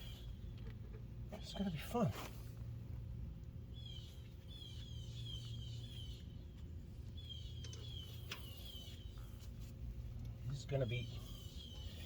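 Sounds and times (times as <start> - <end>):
songbird chirping: 0.0 - 2.0, 3.4 - 12.0
steady low hum: 0.0 - 12.0.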